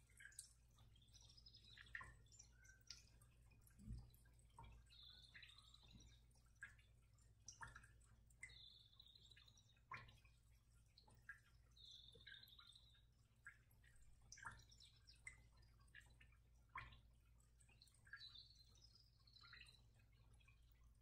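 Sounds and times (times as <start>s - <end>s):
faint ticks: 0.0s - 21.0s.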